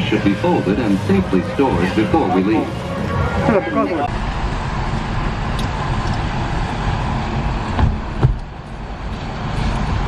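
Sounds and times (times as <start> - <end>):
tram rumbling: 0.0 - 10.0.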